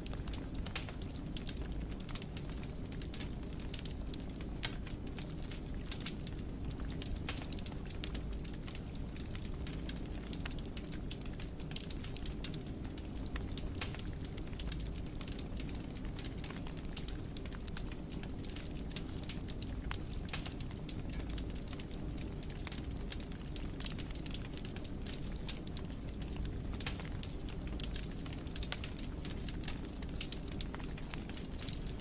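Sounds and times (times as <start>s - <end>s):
fire crackling and popping: 0.0s - 32.0s
wood fire rumbling: 0.0s - 32.0s.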